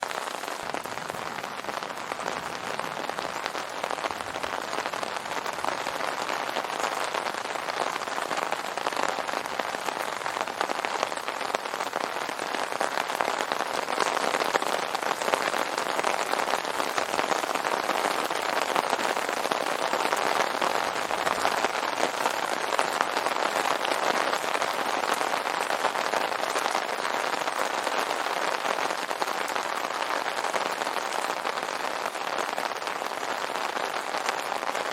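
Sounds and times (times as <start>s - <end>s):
rain pattering on umbrella: 0.0s - 34.9s.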